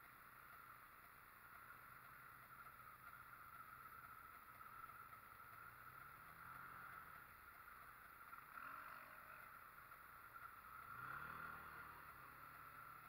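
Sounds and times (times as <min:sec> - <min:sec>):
faint quad bike engine running: 0:00.0 - 0:13.0.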